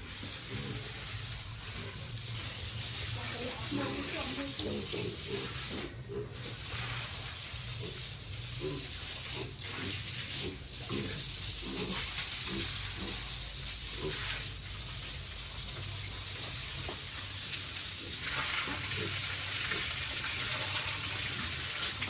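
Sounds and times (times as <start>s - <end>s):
water spraying from hose: 0.0s - 22.0s.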